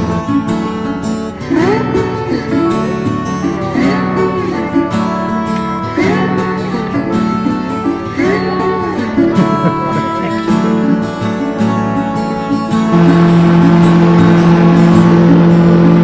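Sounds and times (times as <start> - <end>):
acoustic guitar background music: 0.0 - 16.0.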